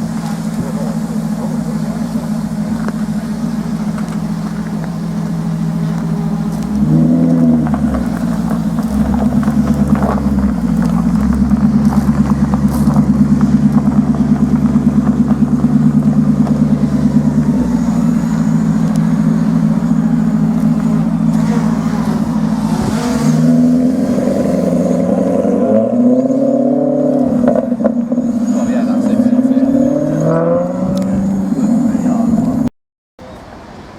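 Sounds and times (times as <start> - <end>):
car engine running and revving: 0.0 - 32.7.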